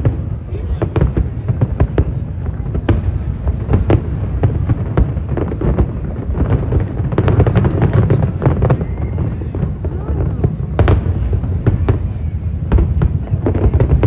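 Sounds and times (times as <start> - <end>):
fireworks booming and cracking: 0.0 - 14.0.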